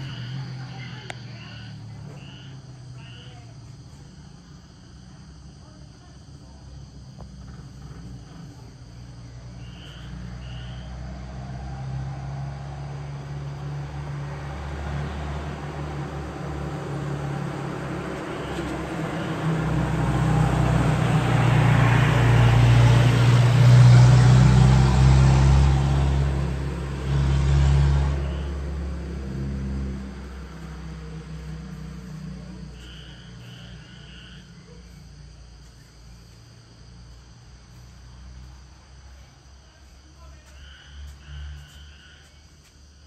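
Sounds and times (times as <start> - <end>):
truck driving: 0.0 - 5.8, 6.4 - 43.0
diesel engine approaching: 0.0 - 43.0.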